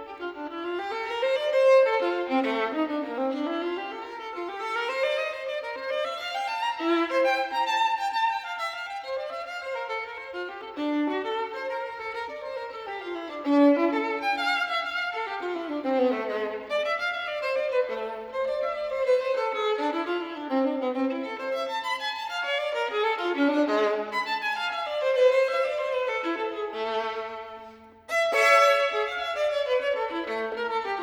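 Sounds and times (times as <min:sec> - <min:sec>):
violin melody: 0:00.0 - 0:31.0.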